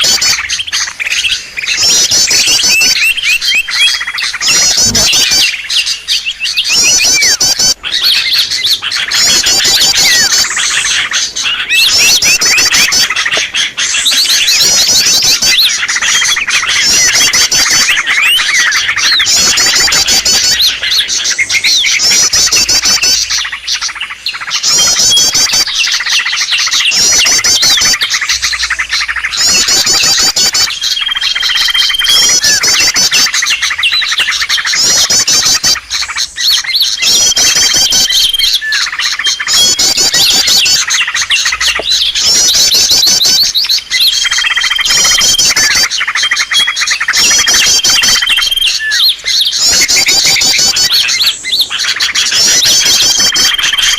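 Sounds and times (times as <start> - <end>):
songbirds chirping rapidly: 0.0 - 53.9.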